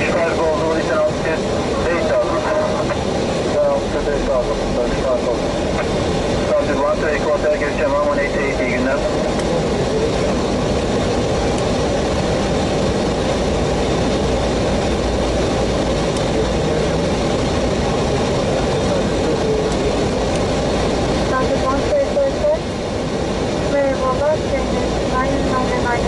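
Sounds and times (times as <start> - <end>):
airflow over fuselage: 0.0 - 26.0
jet engine noise: 0.0 - 26.0.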